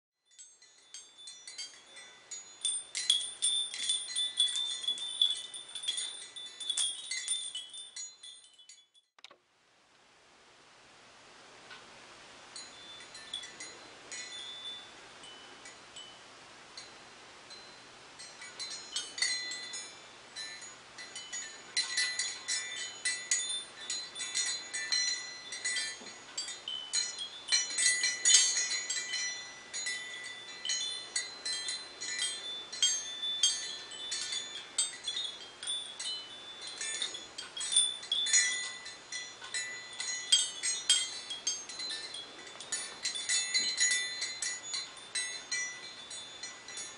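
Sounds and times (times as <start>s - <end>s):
wind chime bells tinkling: 0.2s - 9.2s, 12.6s - 46.9s.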